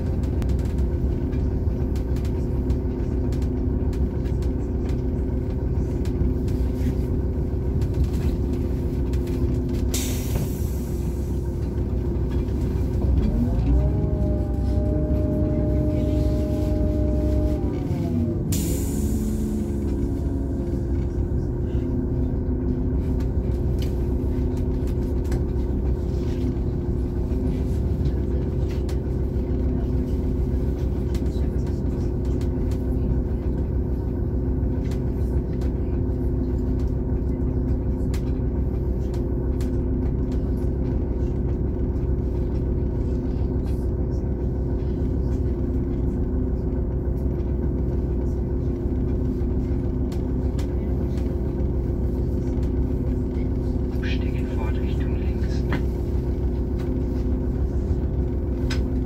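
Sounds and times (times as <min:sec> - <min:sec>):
constant hum: 0:00.0 - 0:59.0
train rolling with low rumble: 0:00.0 - 0:59.0.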